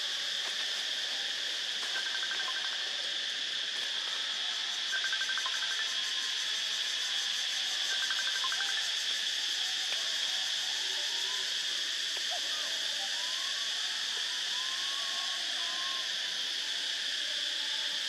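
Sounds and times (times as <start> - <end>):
forest insects droning: 0.0 - 18.0.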